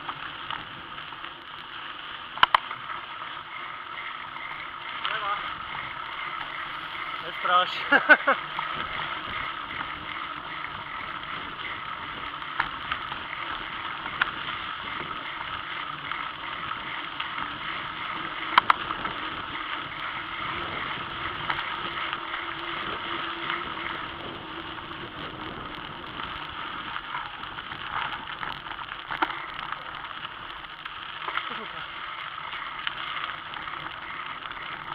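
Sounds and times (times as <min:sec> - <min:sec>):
bicycle tyres on gravel: 0:00.0 - 0:34.9
bike clicks and rattles: 0:00.0 - 0:34.9.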